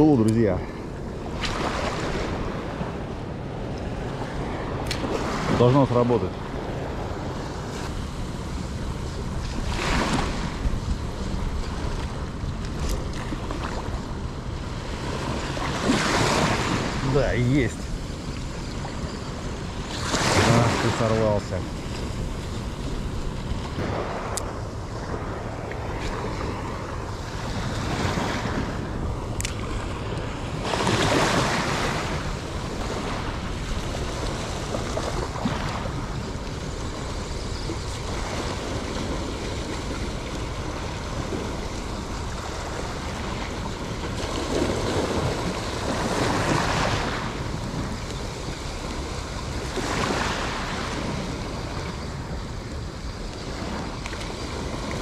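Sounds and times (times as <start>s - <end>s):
small waves washing in: 0.0s - 55.0s
wind on microphone: 0.0s - 55.0s.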